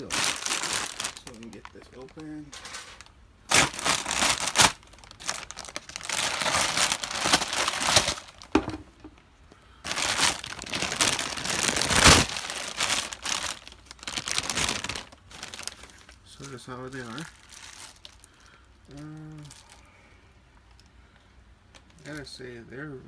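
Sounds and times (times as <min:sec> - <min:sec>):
plastic bag crinkling: 0:00.0 - 0:08.8, 0:09.8 - 0:20.0.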